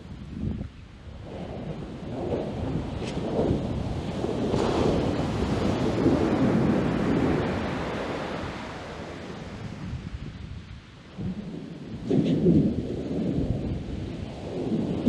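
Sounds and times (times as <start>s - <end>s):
wind buffeting microphone: 0.0s - 15.0s
ocean surf washing up beach: 1.1s - 15.0s.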